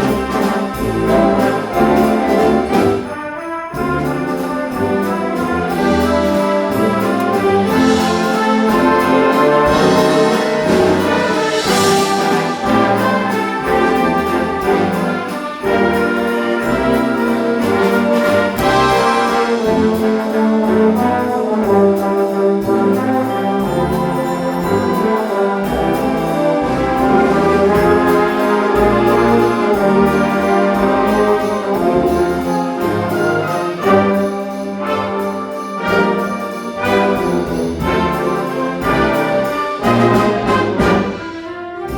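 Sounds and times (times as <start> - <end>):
concert band playing: 0.0 - 41.9.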